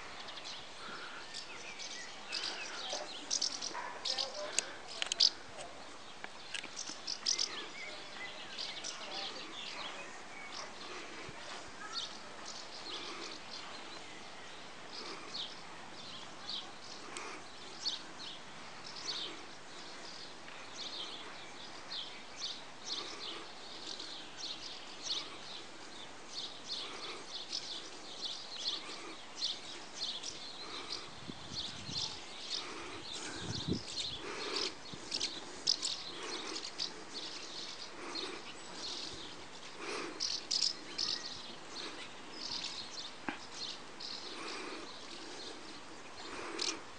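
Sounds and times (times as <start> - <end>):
swallows twittering: 0.0 - 46.9.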